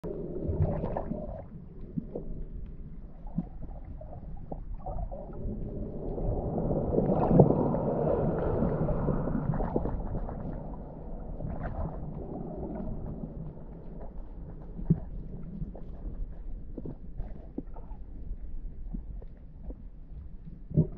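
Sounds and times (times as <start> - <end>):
muffled underwater rushing: 0.0 - 20.9.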